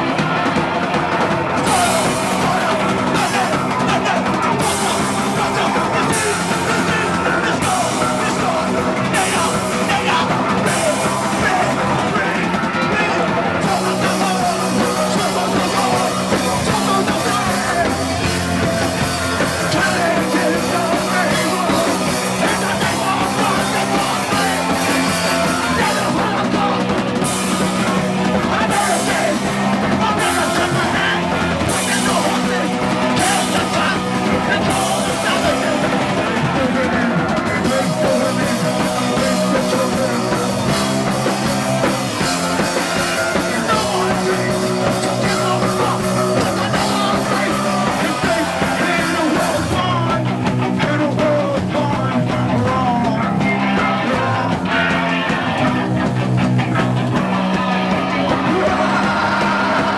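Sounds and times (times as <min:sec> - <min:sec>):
rock band playing: 0:00.0 - 0:59.9
shouted vocals: 0:00.0 - 0:59.9.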